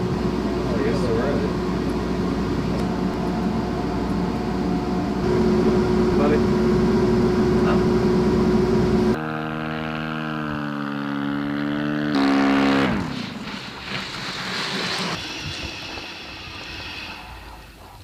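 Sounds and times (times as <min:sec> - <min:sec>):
aircraft engine buzzing drone: 0:00.0 - 0:18.0.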